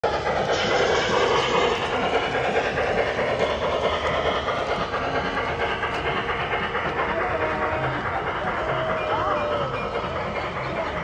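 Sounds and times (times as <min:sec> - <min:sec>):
model train wheels clattering on rail: 0:00.0 - 0:11.0.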